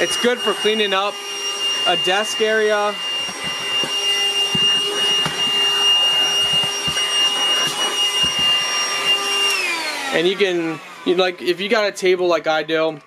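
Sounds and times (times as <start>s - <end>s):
handheld vacuum motor whine: 0.0s - 11.8s.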